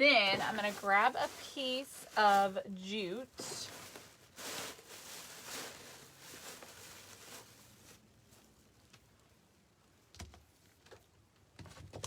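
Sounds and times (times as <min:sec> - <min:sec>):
soft rustling of craft materials: 0:00.0 - 0:12.0.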